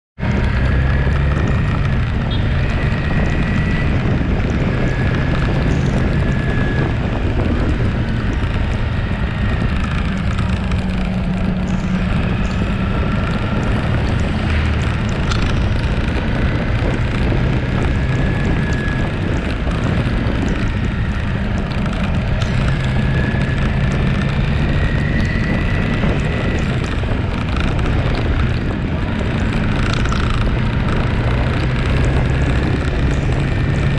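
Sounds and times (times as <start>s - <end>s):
motorcycle engine running: 0.2s - 33.9s
wind rush on microphone: 0.2s - 33.9s.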